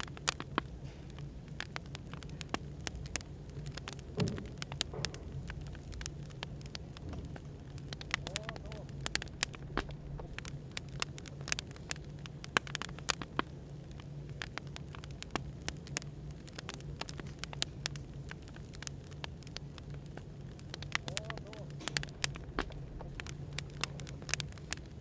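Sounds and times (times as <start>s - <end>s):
low background hum: 0.0s - 25.0s
wood fire crackling: 0.0s - 25.0s.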